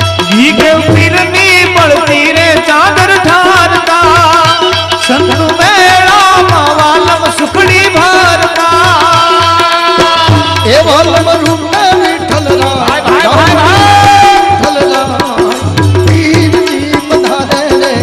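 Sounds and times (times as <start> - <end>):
tabla rhythm: 0.0 - 18.0.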